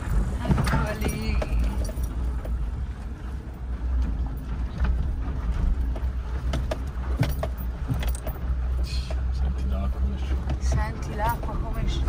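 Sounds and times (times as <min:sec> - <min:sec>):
engine and drivetrain rumble: 0:00.0 - 0:12.0
knocks and rattles: 0:00.0 - 0:12.0.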